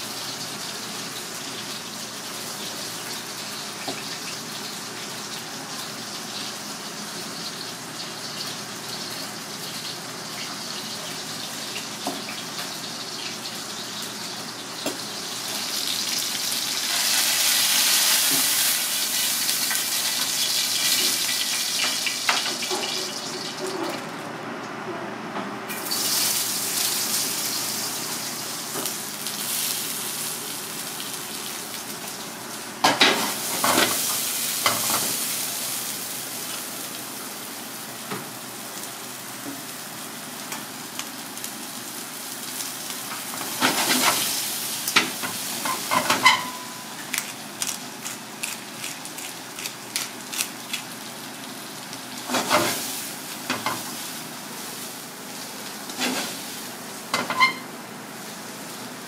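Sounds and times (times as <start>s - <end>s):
vegetables sizzling in a wok: 0.0s - 24.6s, 25.6s - 59.0s.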